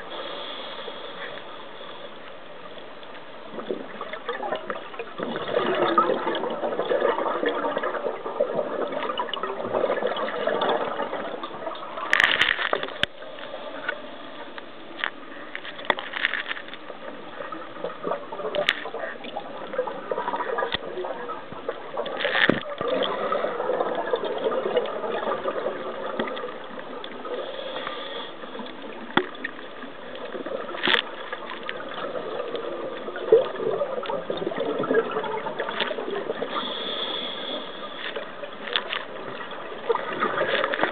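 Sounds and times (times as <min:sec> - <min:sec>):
muffled underwater noise: 0:00.0 - 0:40.9
rush of regulator bubbles: 0:03.6 - 0:13.8, 0:17.3 - 0:40.9.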